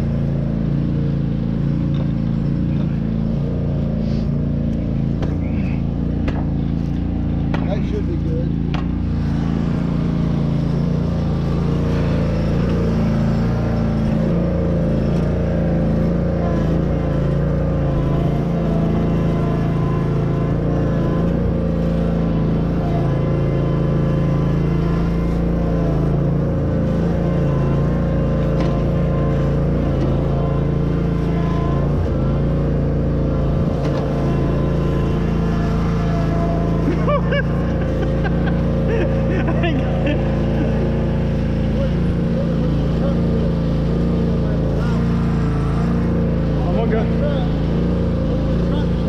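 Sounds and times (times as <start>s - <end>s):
mower engine running under load: 0.0s - 49.0s.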